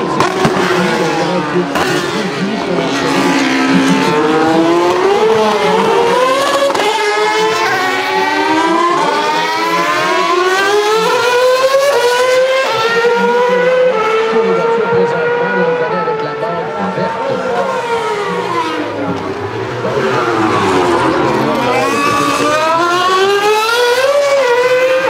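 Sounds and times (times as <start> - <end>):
racing car engines at high revs: 0.0 - 25.0.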